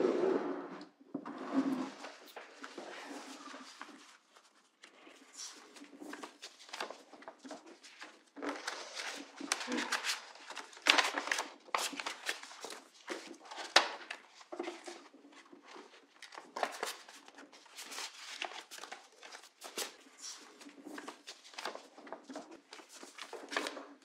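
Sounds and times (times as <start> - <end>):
paper rustling and crackling: 1.9 - 24.0.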